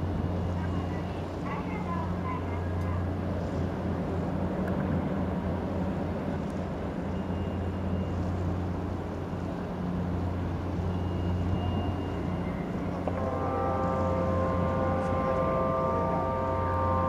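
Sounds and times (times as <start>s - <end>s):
ship engine humming: 0.0s - 17.0s.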